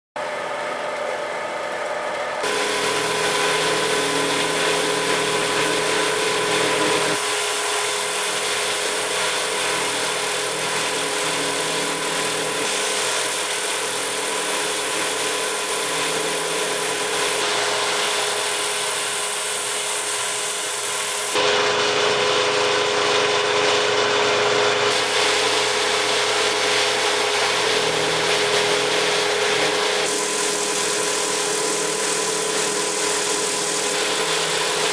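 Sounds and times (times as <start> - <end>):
milling machine cutting metal: 2.4 - 34.9.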